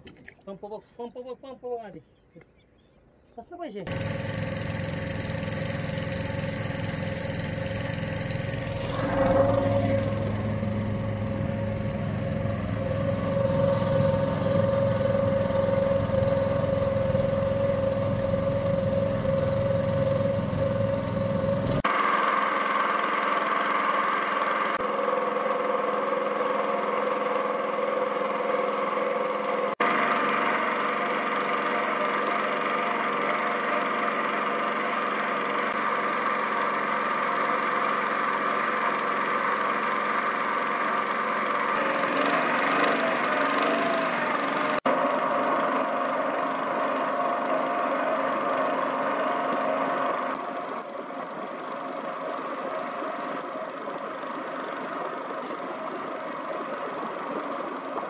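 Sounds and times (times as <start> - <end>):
boat engine droning: 3.9 - 58.0.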